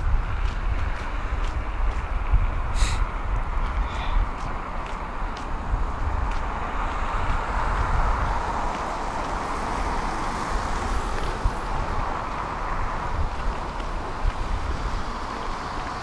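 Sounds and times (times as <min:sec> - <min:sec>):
low traffic rumble: 0:00.0 - 0:16.0
passing cars hissing: 0:00.0 - 0:16.0.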